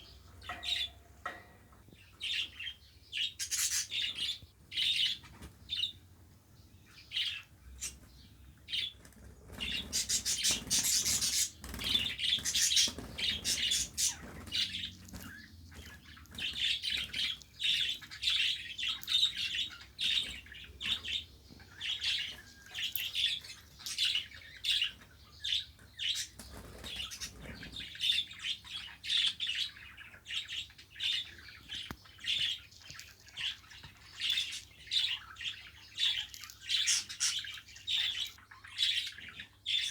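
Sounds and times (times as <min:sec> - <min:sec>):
budgerigars chirping: 0:02.0 - 0:06.0, 0:06.9 - 0:39.9.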